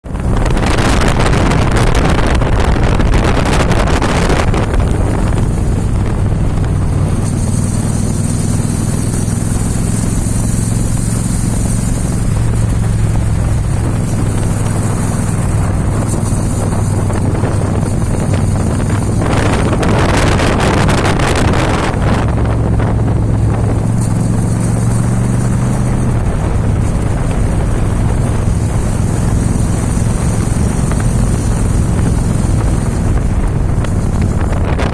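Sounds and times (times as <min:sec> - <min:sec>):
motorcycle engine running: 0:00.0 - 0:34.9
wind buffeting microphone: 0:00.0 - 0:34.9.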